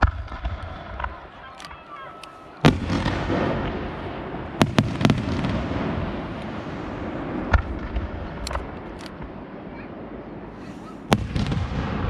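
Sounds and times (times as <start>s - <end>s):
firework bangs: 0.0s - 1.4s, 2.6s - 9.8s, 10.6s - 12.0s
rumble and crackle of bursts: 0.0s - 10.5s.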